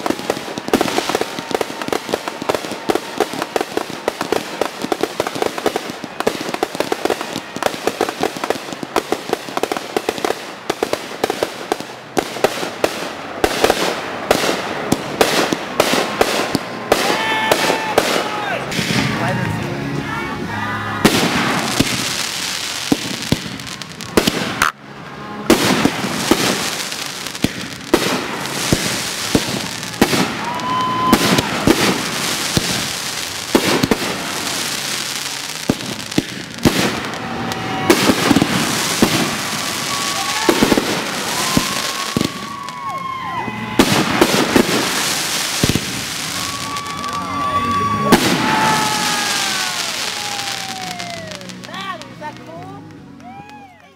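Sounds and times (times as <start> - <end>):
fireworks bangs: 0.0 - 19.7, 20.9 - 52.9
fireworks crackling hiss: 0.0 - 19.8, 21.0 - 24.8, 25.4 - 53.6.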